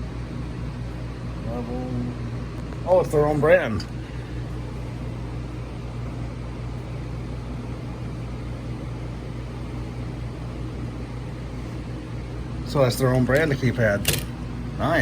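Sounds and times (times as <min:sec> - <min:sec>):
low room hum with hiss: 0:00.0 - 0:15.0.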